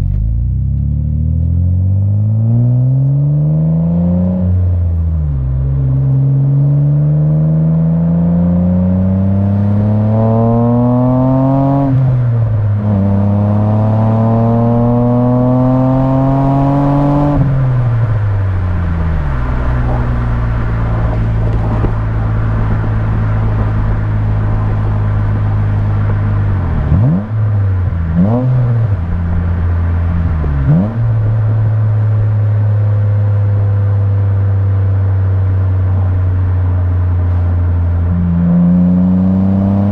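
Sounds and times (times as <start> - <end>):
car exhaust accelerating: 0.0 - 39.9.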